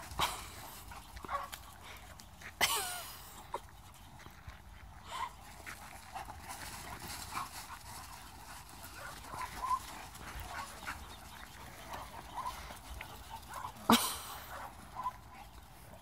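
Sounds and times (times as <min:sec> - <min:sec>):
dogs panting: 0:00.0 - 0:16.0.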